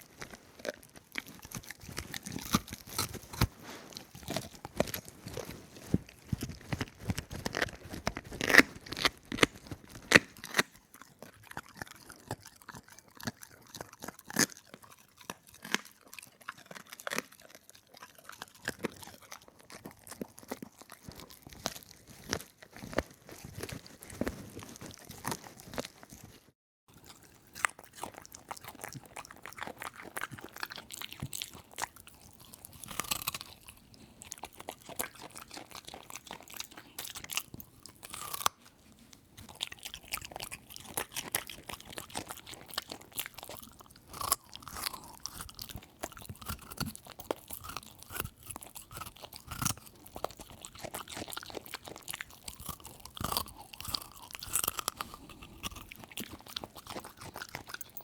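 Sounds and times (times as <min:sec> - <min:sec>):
crunching and chewing crisp food: 0:00.0 - 0:58.0.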